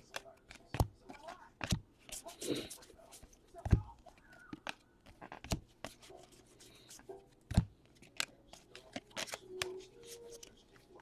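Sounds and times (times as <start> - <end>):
trading cards flicked and rubbed: 0.0 - 11.0.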